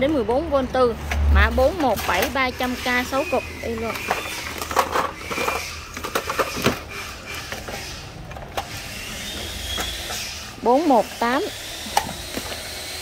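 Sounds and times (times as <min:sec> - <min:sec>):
plastic battery packs clicking: 0:01.0 - 0:10.9, 0:11.8 - 0:13.0.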